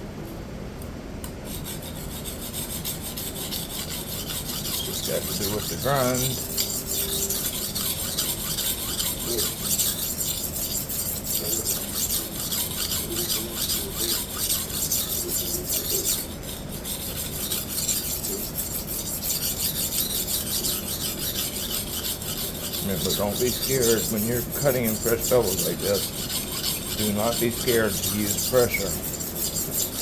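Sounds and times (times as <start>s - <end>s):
knife scraping on sharpening stone: 1.5s - 30.0s.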